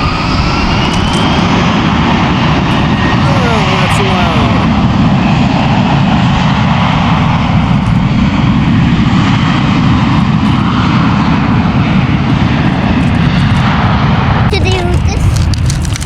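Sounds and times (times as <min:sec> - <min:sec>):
airplane engine passing close: 0:00.0 - 0:16.0.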